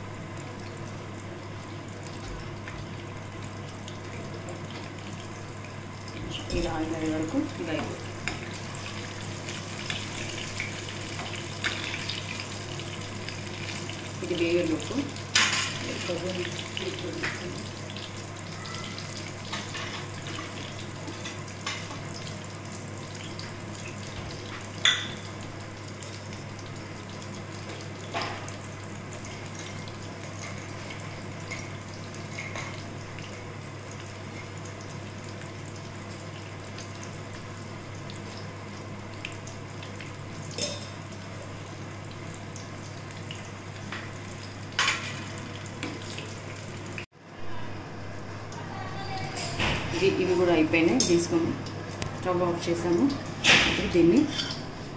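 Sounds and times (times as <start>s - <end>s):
food deep-frying in oil: 0.0s - 54.9s.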